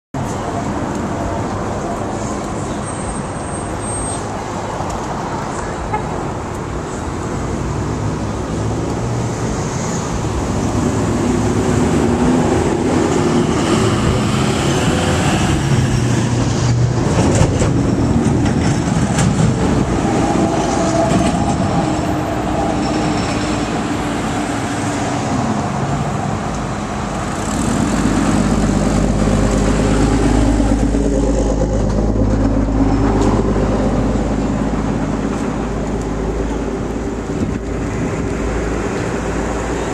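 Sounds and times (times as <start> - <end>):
heavy vehicle engines passing: 0.2 - 39.9.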